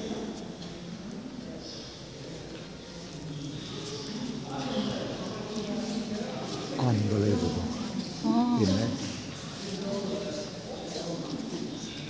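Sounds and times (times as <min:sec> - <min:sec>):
distant murmur of people talking: 0:00.0 - 0:12.0.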